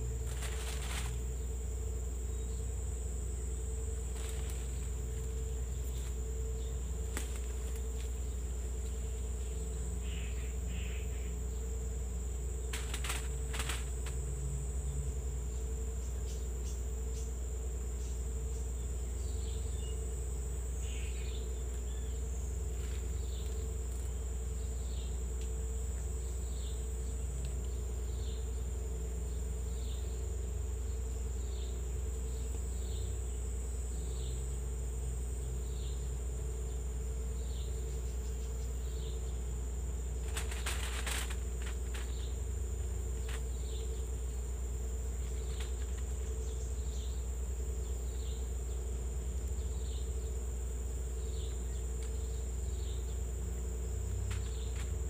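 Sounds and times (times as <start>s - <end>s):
high-pitched insect buzz: 0.0s - 55.0s
lower pulsing drone: 0.0s - 55.0s.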